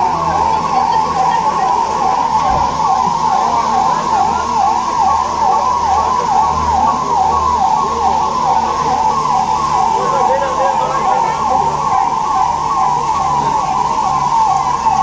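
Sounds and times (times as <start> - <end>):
electronic siren warbling: 0.0 - 15.0.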